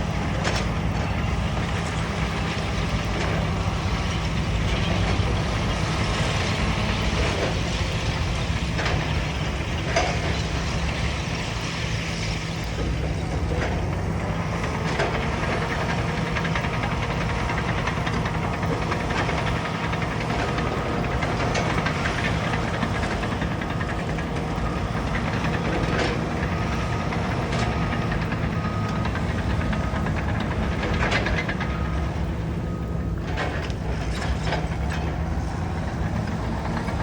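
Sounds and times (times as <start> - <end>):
bulldozer diesel engine running: 0.0 - 37.0
machine knocks and clanks: 0.2 - 11.2, 12.6 - 37.0.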